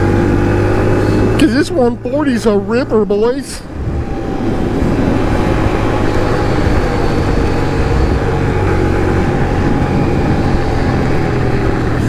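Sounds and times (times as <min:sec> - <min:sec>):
motorcycle engine running: 0:00.0 - 0:03.0, 0:03.6 - 0:12.0.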